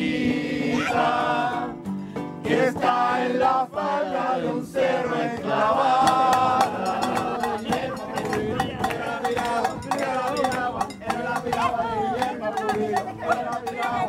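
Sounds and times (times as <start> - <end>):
acoustic guitar: 0.0 - 14.0
group of people singing: 0.0 - 14.0.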